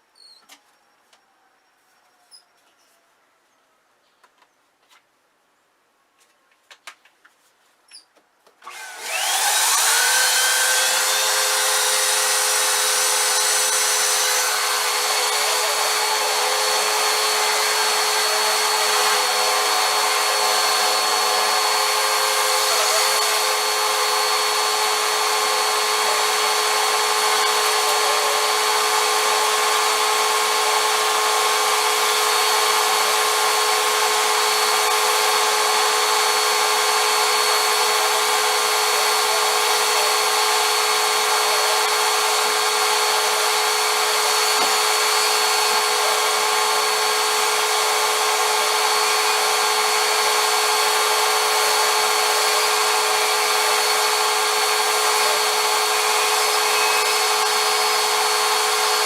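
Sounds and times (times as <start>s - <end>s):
vacuum cleaner motor whine: 8.6s - 59.0s.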